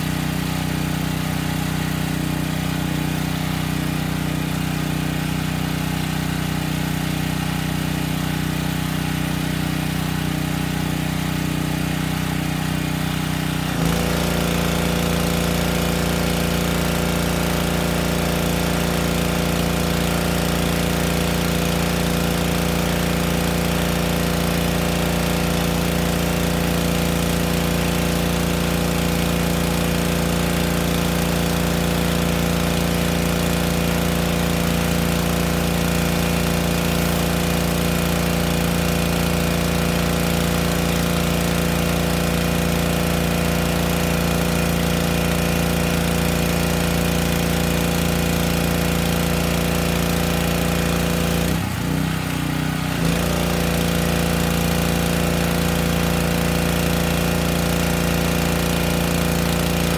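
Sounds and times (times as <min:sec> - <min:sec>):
pressure washer engine running: 0:00.0 - 0:59.9.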